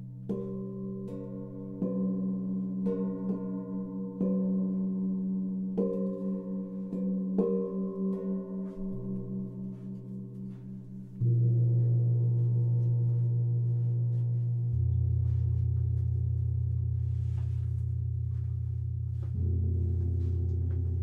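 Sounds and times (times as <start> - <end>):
gongs struck with soft mallet: 0.0 - 21.0
deep gong tone: 0.3 - 21.0.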